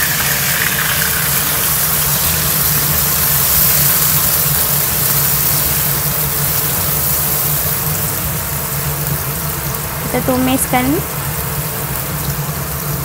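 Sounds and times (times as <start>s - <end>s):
low machine hum: 0.0s - 13.0s
onions sizzling in hot oil: 0.0s - 13.0s.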